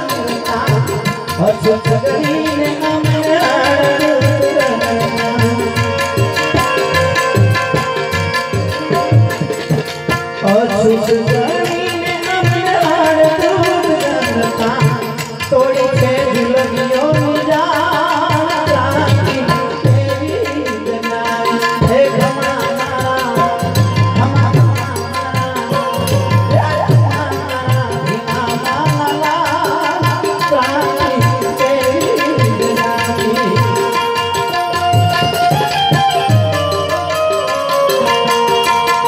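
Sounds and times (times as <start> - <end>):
man singing over a pa: 0.0 - 6.6, 10.4 - 35.2
harmonium: 0.0 - 39.0
tabla drumming: 0.0 - 39.0.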